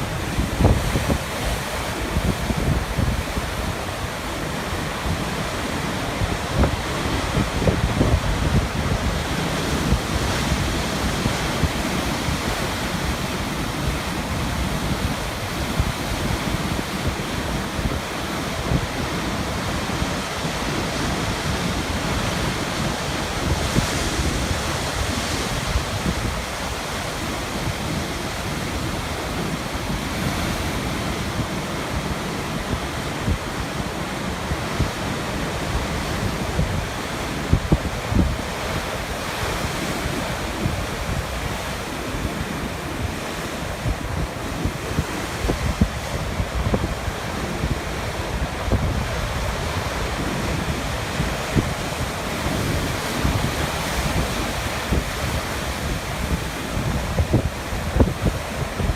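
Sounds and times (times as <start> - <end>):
deep rumble of surf: 0.0 - 58.9
waves breaking on rocks: 0.0 - 58.9.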